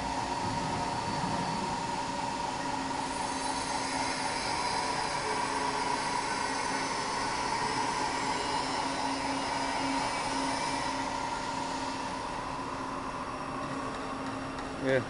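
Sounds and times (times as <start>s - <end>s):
high machine whine: 0.0s - 15.0s
lathe machine hum: 0.0s - 15.0s.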